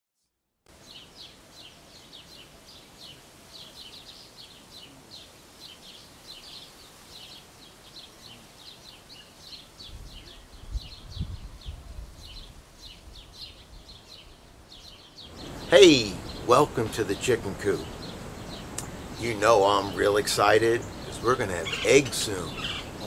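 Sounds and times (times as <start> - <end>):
small birds chirping: 0.7 - 23.0.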